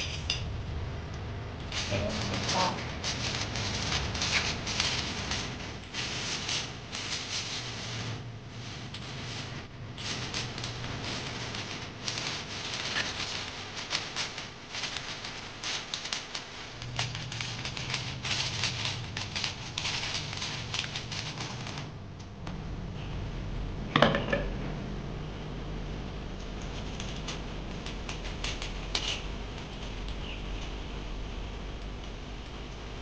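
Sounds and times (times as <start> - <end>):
aluminium foil crinkling: 1.6 - 22.0, 26.3 - 32.8.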